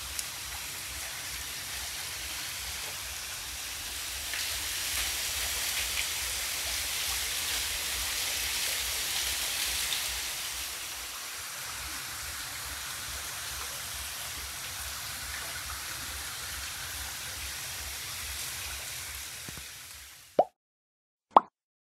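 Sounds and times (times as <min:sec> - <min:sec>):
waterfall rushing: 0:00.0 - 0:19.3.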